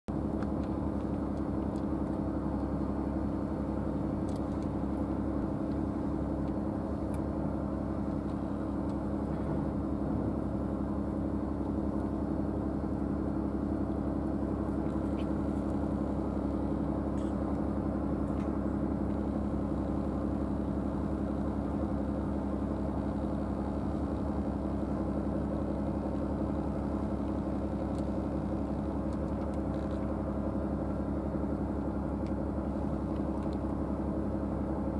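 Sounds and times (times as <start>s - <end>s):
engine idling drone: 0.1s - 34.9s.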